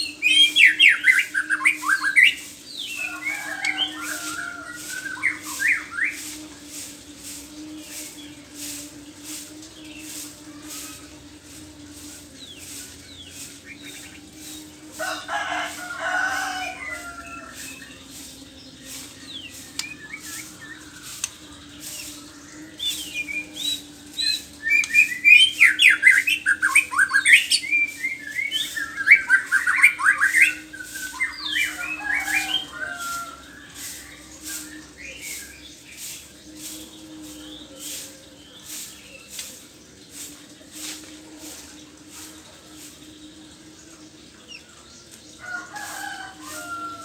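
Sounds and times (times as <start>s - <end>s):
bird singing rapid phrases: 0.0s - 41.8s.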